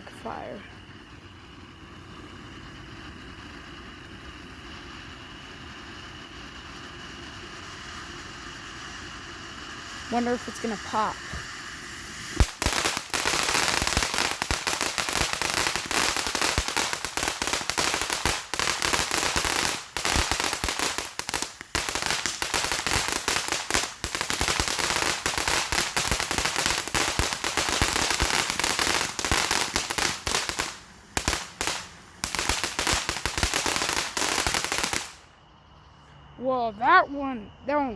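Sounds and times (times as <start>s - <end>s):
firework crackling: 0.0s - 35.4s.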